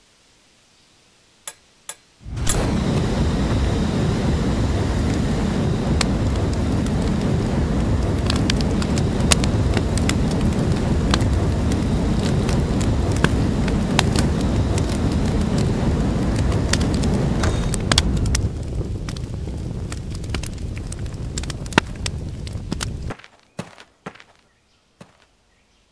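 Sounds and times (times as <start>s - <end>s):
sharp crackles and pops: 1.4s - 25.3s
flamethrower rushing flame: 2.2s - 23.2s.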